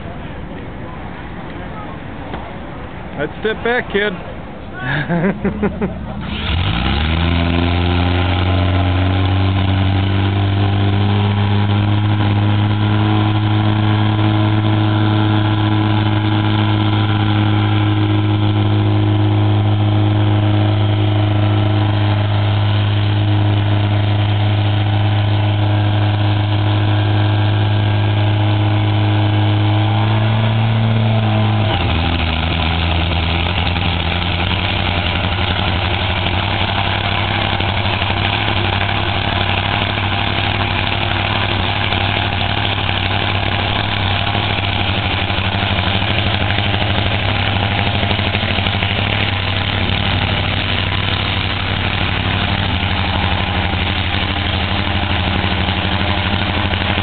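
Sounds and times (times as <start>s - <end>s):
motorcycle engine idling: 8.7s - 57.0s.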